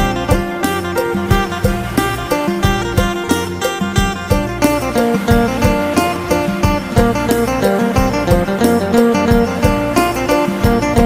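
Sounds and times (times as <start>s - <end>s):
plucked lute melody: 0.0s - 11.0s
steady drum beat: 0.0s - 11.0s.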